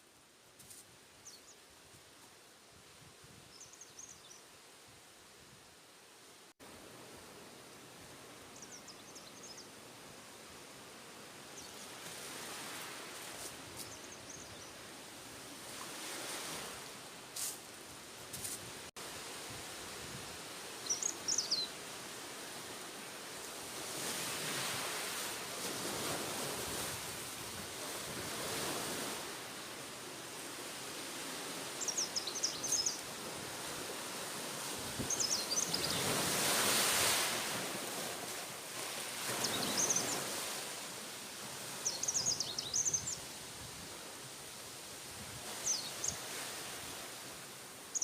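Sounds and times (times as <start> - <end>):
wind: 0.0 - 48.0
surf on shore: 6.6 - 48.0.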